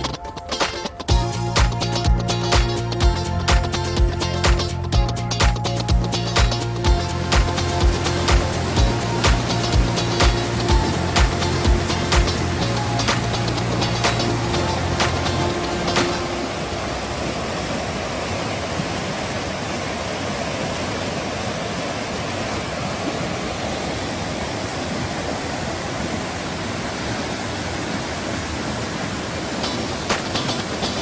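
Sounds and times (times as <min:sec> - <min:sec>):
stream flowing over rocks: 0:05.4 - 0:31.0.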